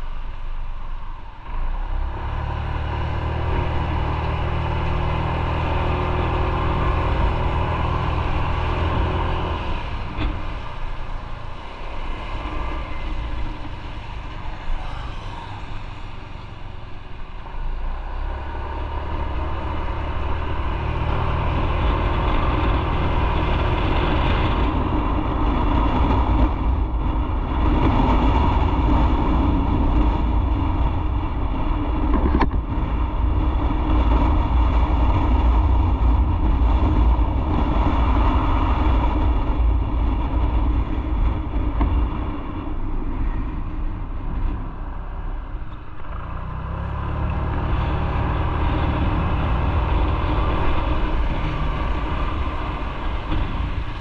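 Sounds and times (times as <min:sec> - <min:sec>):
road noise: 0:00.0 - 0:54.0
motorcycle engine: 0:01.0 - 0:54.0.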